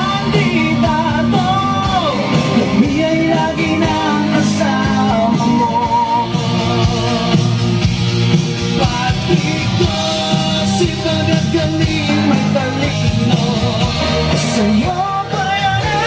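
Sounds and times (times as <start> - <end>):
person singing over band: 0.0 - 16.0.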